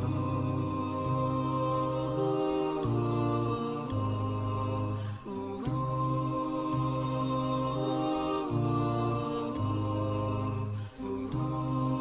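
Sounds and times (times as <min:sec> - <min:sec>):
wordless vocal aahs: 0:00.0 - 0:12.0.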